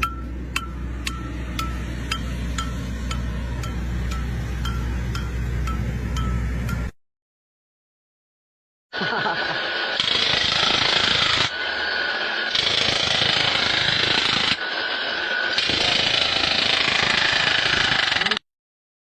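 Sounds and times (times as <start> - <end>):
power tool hammering: 0.0 - 7.0, 9.2 - 18.4.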